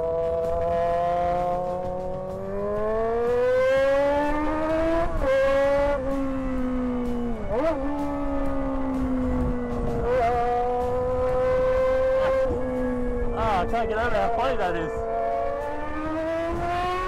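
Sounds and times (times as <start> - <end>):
high-revving motorcycle engine whine: 0.0 - 17.0.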